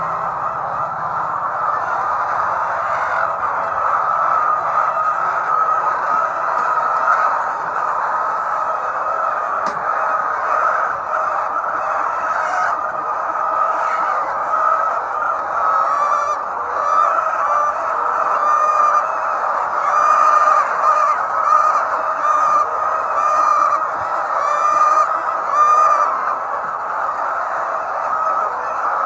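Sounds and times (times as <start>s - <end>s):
chickens calling: 0.0s - 29.0s.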